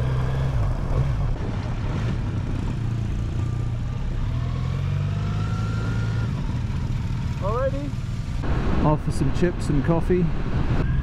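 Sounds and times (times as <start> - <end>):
motorcycle engine accelerating: 0.0 - 9.0.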